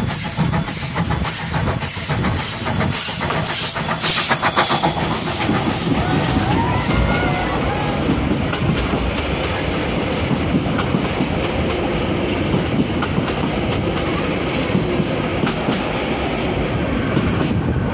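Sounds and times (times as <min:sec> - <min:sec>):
train coaches rumbling: 0:00.0 - 0:17.9.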